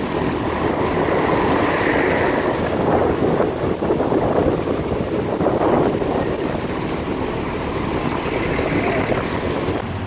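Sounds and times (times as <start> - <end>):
road and traffic noise: 0.0 - 10.0
wind rushing over microphone: 0.0 - 10.0.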